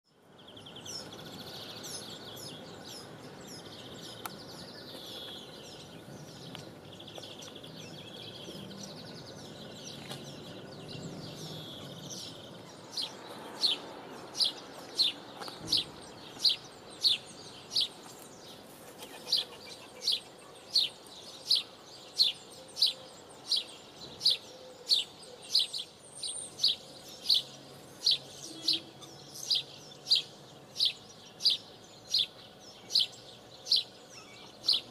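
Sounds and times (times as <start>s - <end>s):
birds singing: 0.1s - 34.9s.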